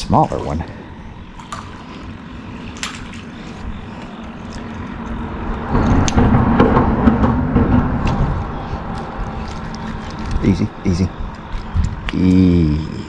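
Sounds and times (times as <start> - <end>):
vehicle rumbling over bridge: 0.8 - 12.1.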